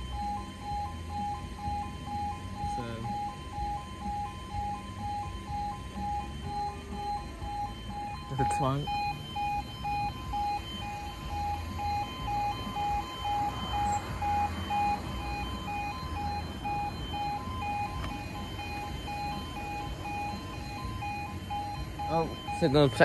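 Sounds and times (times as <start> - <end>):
level crossing alarm beeping: 0.0 - 23.0.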